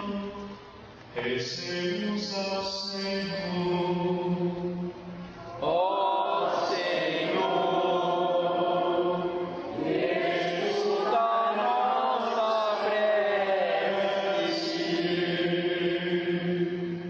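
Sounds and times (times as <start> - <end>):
sung liturgical chant: 0.0 - 17.0.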